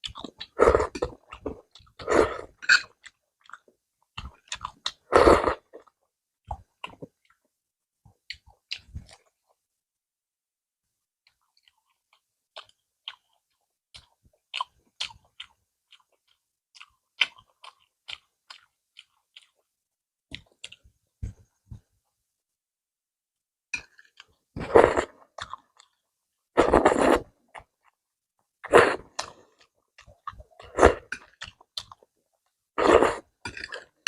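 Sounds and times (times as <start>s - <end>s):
person chewing food: 0.0s - 7.5s, 8.1s - 9.6s, 11.2s - 19.7s, 20.3s - 21.9s, 23.8s - 34.0s.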